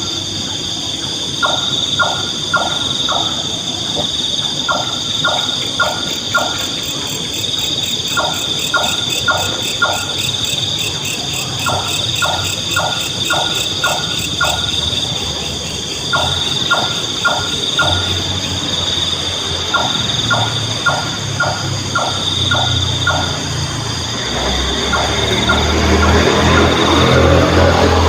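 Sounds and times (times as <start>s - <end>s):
insect trilling: 0.0s - 28.0s
nightjar knocking calls: 1.3s - 23.6s, 24.7s - 27.2s.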